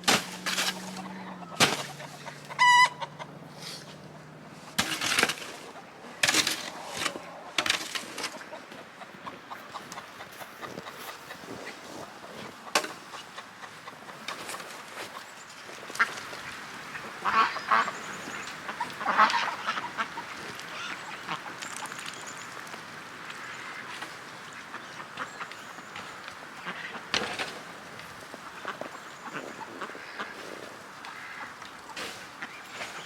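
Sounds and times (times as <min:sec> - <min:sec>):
ducks quacking: 0:00.0 - 0:22.2, 0:23.3 - 0:33.0.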